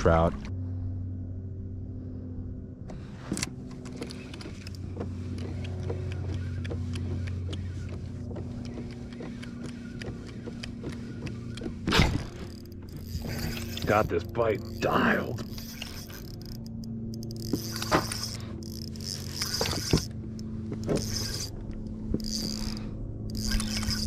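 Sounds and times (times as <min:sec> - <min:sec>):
electric trolling motor humming: 0:00.0 - 0:24.0
light clicks and ticks: 0:03.3 - 0:24.0.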